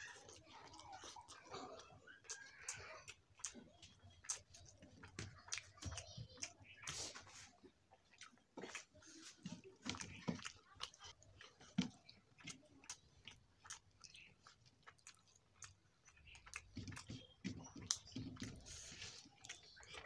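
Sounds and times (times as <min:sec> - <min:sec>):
person chewing close up: 0:00.0 - 0:20.0.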